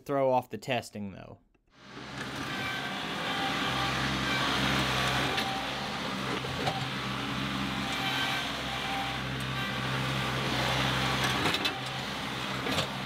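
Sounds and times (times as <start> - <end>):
tractor diesel engine running: 1.8 - 13.0.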